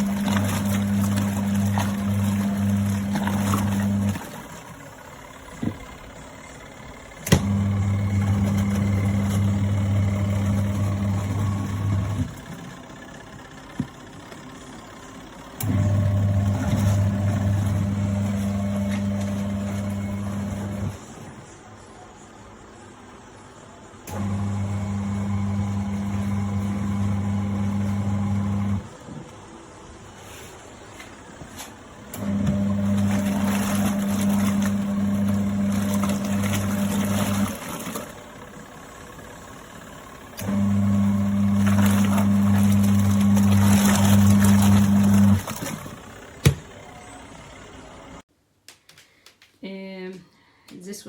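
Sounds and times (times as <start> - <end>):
washing machine motor humming: 0.0 - 21.8, 22.6 - 48.3.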